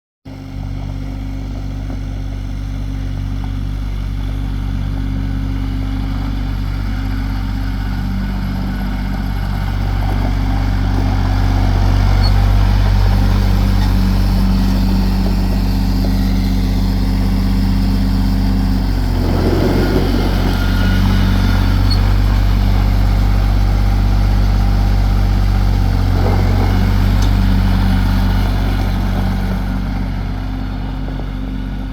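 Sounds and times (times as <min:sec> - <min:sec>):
tractor diesel engine running: 0:00.3 - 0:31.9.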